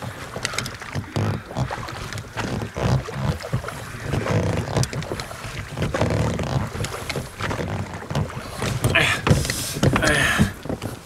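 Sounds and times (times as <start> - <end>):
boat knocks and scraping: 0.0 - 11.0
wind rumbling on microphone: 0.0 - 11.0.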